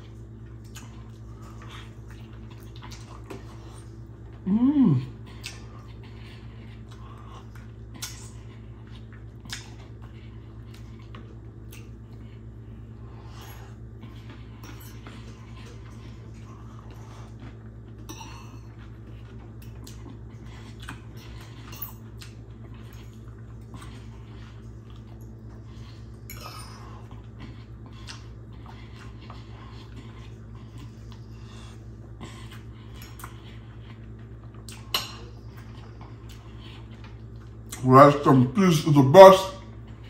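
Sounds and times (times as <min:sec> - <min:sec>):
low steady hum: 0:00.0 - 0:40.0
wet chewing sounds: 0:00.0 - 0:40.0.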